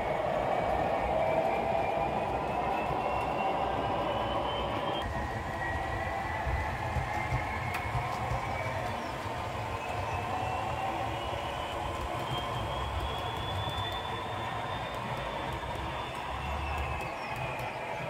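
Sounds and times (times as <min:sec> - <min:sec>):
rumble of wheels on rails: 0:00.0 - 0:18.0.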